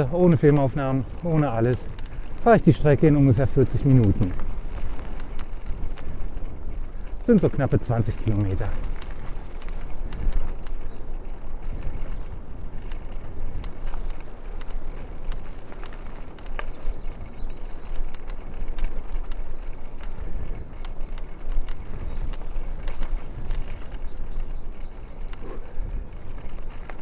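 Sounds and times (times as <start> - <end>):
bicycle clicks and rattles: 0.0 - 27.0
wind rumble on microphone: 0.0 - 27.0.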